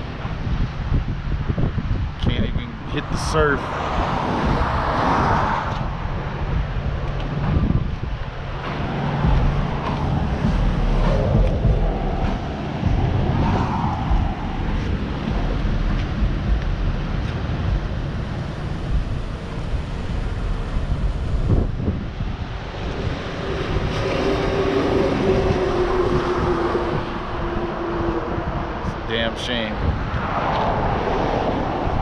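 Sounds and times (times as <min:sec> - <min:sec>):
cars passing on highway: 0:00.0 - 0:32.0
wind buffeting microphone: 0:00.0 - 0:32.0
steady drone: 0:02.4 - 0:32.0.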